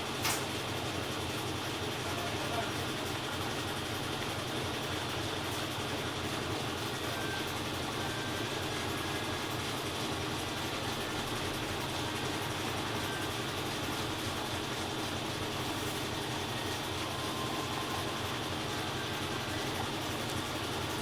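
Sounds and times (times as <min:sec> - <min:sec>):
washing machine whirring: 0:00.0 - 0:21.0.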